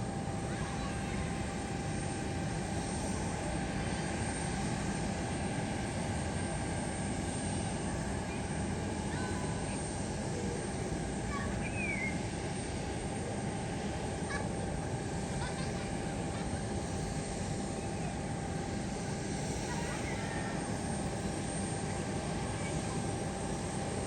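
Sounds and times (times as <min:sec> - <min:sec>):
aircraft engine noise: 0:00.0 - 0:24.0
faint engine whine: 0:00.0 - 0:24.0.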